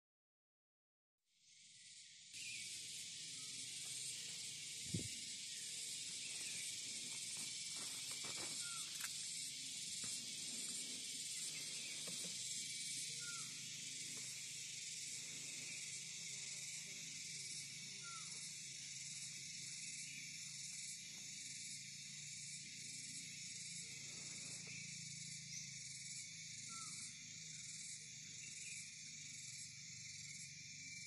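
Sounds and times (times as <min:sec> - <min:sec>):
insect chorus hiss: 0:01.3 - 0:31.0.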